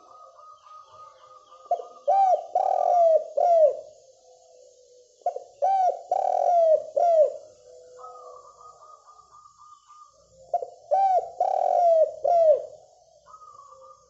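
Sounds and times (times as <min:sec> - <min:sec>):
dove cooing: 0:00.0 - 0:04.5, 0:05.2 - 0:14.0.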